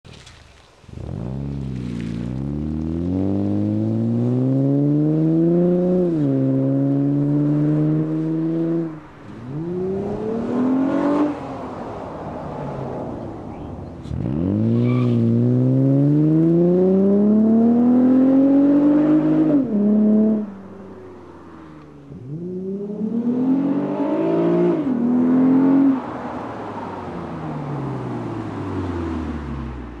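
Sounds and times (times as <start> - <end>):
car engine accelerating: 0.9 - 20.8, 21.8 - 30.0.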